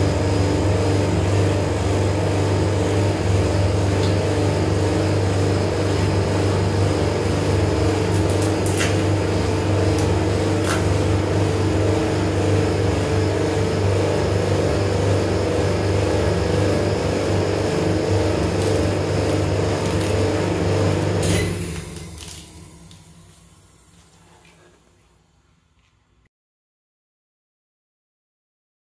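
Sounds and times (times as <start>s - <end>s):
refrigeration compressor humming: 0.0s - 26.2s.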